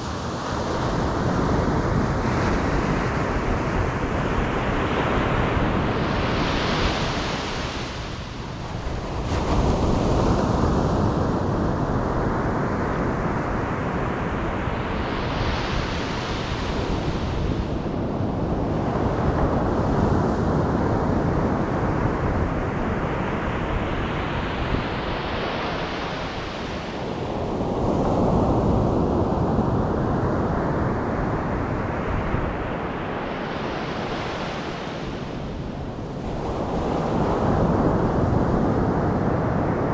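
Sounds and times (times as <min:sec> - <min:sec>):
low rumble of sea: 0:00.0 - 0:39.9
wind buffeting microphone: 0:00.0 - 0:39.9.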